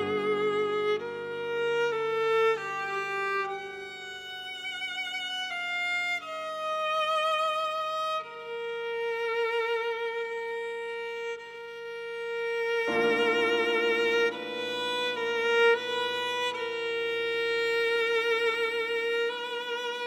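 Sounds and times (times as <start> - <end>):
viola melody with vibrato: 0.0 - 20.0.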